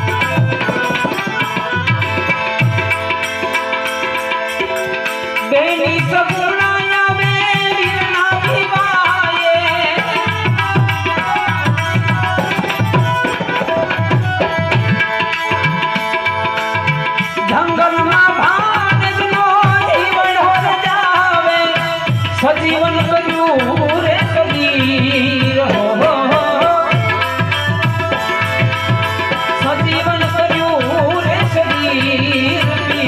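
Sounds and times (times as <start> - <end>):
harmonium melody: 0.0 - 33.0
tabla beat: 0.0 - 33.0.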